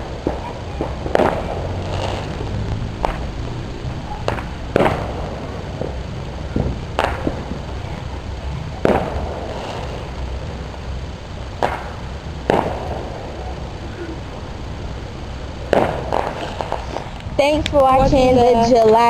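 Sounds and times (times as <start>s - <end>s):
fireworks bangs: 0.0s - 19.0s
low background rumble: 0.0s - 19.0s.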